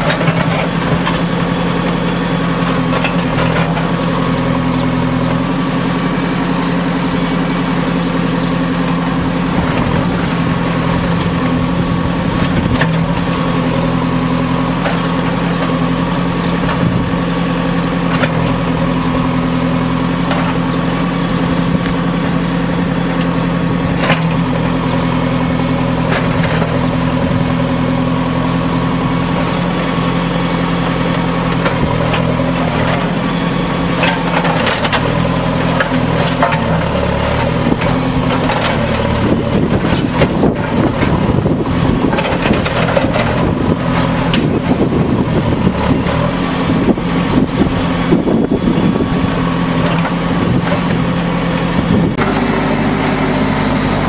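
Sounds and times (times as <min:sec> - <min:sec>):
backhoe digging into earth: 0:00.0 - 0:54.0
diesel engine running: 0:00.0 - 0:54.0.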